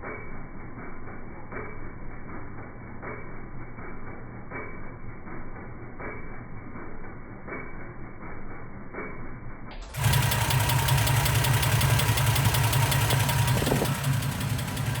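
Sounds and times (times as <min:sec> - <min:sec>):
engine running with fast ticking: 0:00.0 - 0:15.0.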